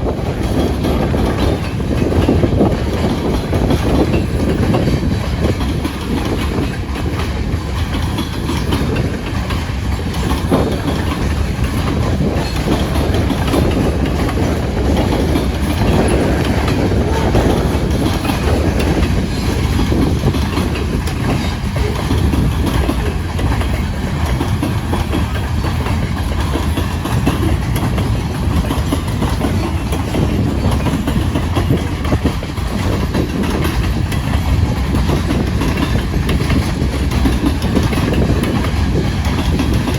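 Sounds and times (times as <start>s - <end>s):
train wheels clicking over rails: 0.0s - 39.9s.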